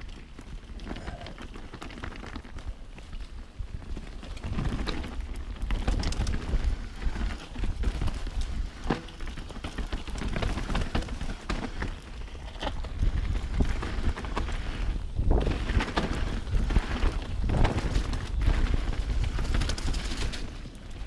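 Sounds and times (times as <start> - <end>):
bike rattling over roots: 0.0 - 21.0
bike tyres on muddy dirt: 0.0 - 21.0.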